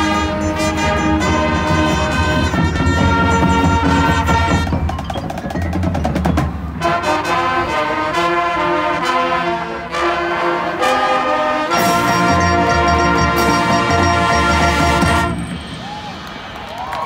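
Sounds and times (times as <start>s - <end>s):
brass band held chords: 0.0s - 5.0s, 6.7s - 15.8s.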